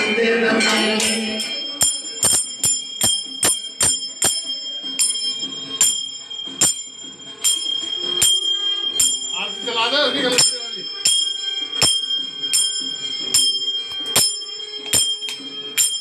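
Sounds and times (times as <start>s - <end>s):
small hand bell ringing: 0.6s - 16.0s.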